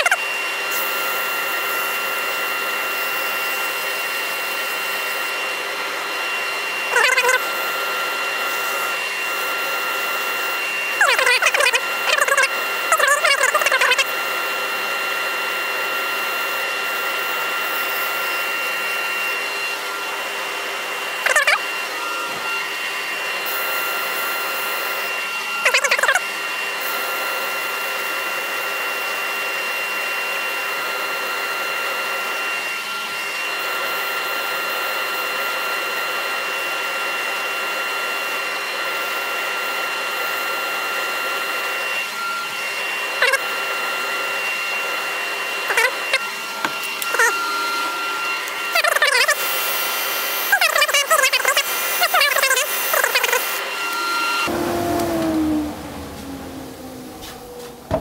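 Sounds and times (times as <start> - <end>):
dust extractor running: 0.0 - 58.0.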